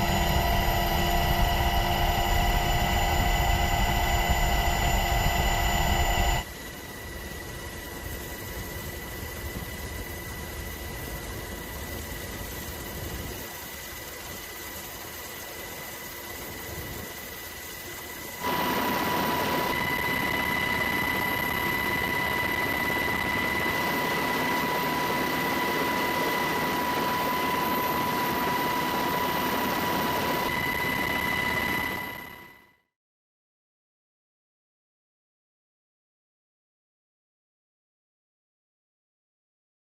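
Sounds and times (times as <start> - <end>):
engine drone with high whine: 0.0 - 32.8.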